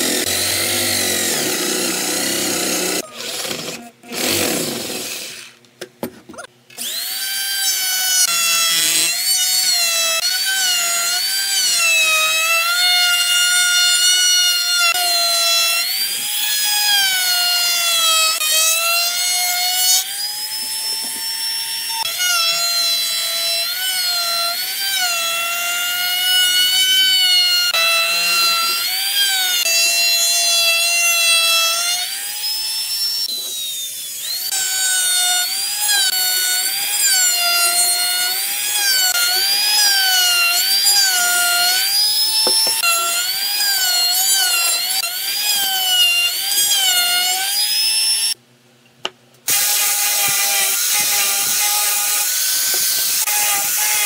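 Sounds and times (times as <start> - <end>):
router whining while cutting wood: 0.0 - 5.6, 6.7 - 48.4, 49.5 - 54.0.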